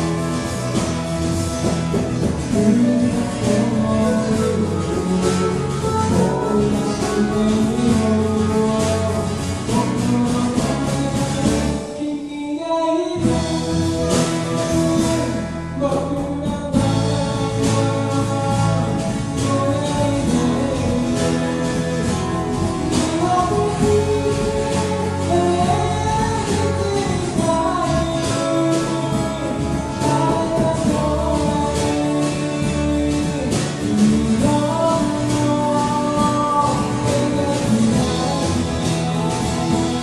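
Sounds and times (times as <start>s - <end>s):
live band playing: 0.0s - 40.0s
person singing: 0.0s - 40.0s.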